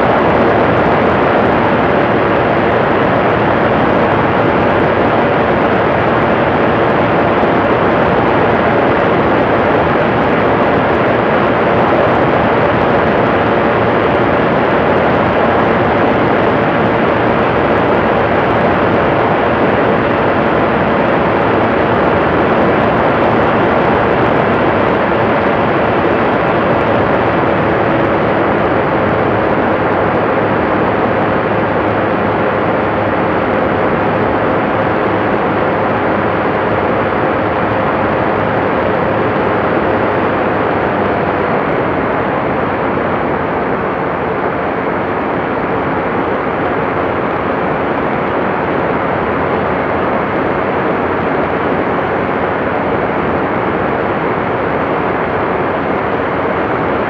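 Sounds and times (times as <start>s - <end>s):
aircraft engine and propeller: 0.0s - 57.0s.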